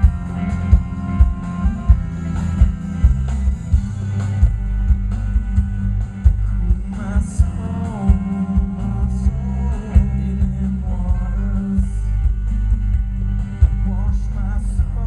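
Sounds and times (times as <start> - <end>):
drum beat thumping: 0.0 - 15.0
live band with singer: 0.0 - 15.0.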